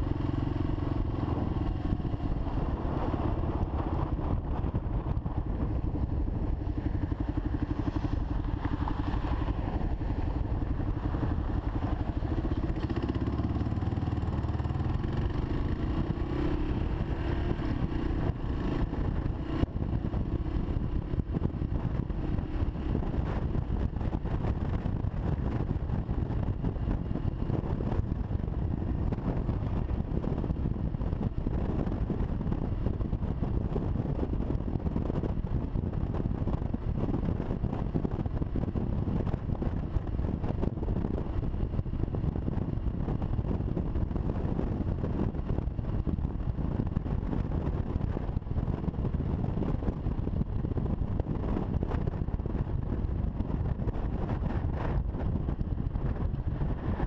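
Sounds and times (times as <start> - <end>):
motorcycle engine rumble: 0.0 - 57.0
wind buffeting microphone: 0.0 - 57.0.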